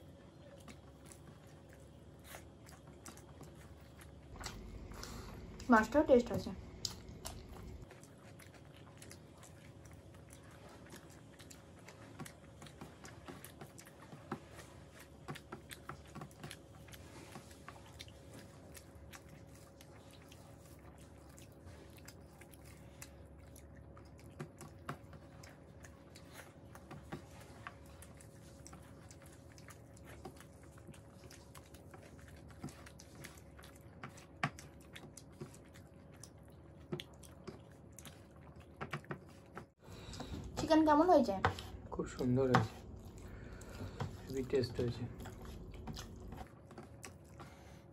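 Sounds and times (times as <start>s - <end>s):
chewing and mouth sounds: 0.0s - 47.9s
faint steady hum: 0.0s - 47.9s.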